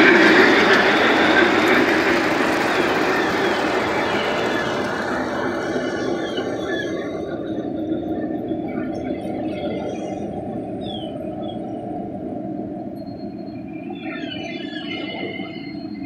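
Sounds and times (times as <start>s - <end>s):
model train rumbling on track: 0.0s - 13.4s.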